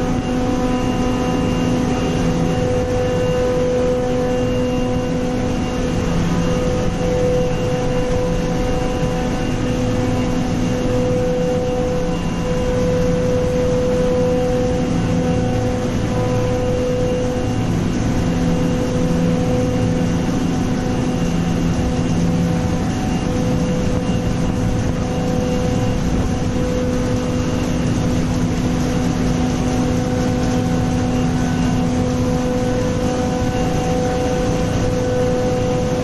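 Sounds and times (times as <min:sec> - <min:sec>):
industrial machinery running: 0:00.0 - 0:36.0
steady machine hum tones: 0:00.0 - 0:36.0.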